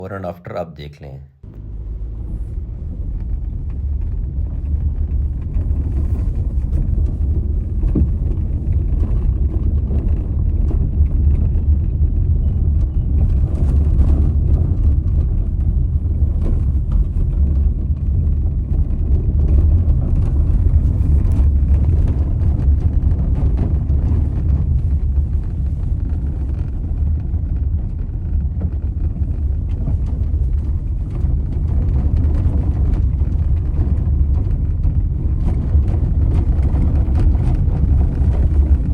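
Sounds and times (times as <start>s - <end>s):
car road rumble: 0.0s - 38.9s.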